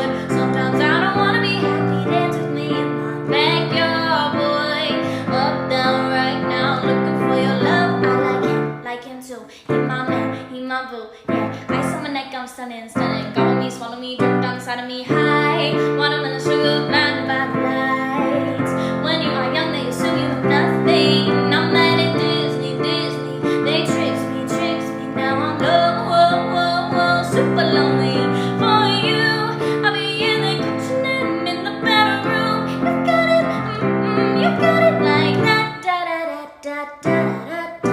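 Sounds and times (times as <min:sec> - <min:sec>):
keyboard chords: 0:00.0 - 0:08.8, 0:13.0 - 0:35.8, 0:37.0 - 0:37.9
woman singing: 0:00.0 - 0:37.9.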